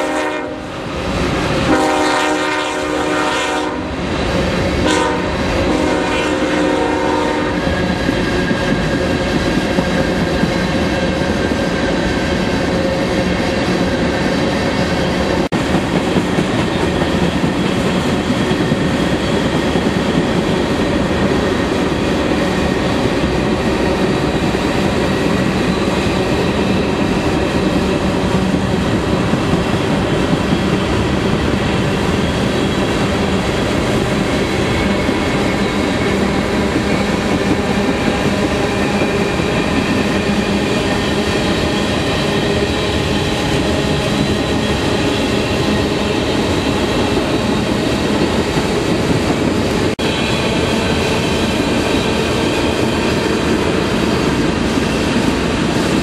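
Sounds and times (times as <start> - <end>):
freight train rolling past: 0.0 - 56.0
steel wheels ringing on rail: 0.0 - 56.0.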